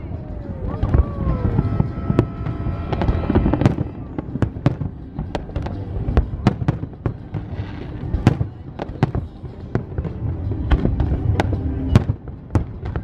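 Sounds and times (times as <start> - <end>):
fireworks bangs and cracks: 0.6 - 13.0.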